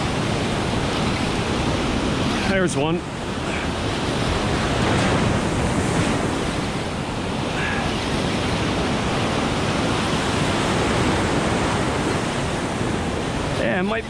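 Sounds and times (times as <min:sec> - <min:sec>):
ocean surf breaking on rocks: 0:00.0 - 0:14.0.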